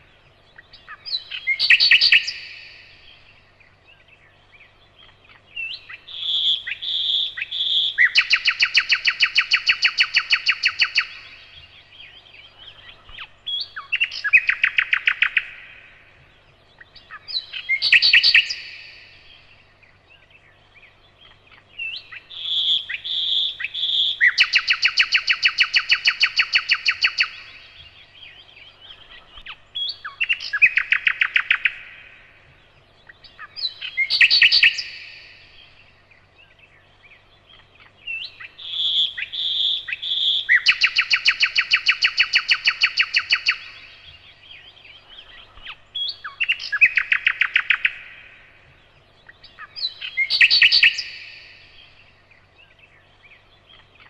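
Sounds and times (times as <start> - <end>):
nightingale singing: 0.0 - 54.0.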